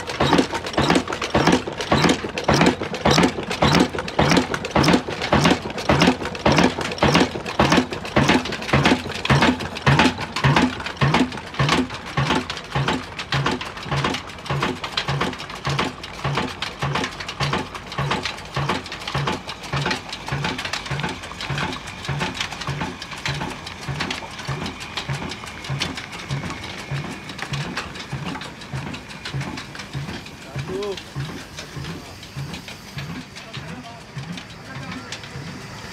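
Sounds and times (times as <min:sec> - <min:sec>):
stationary diesel engine chugging: 0:00.0 - 0:35.9.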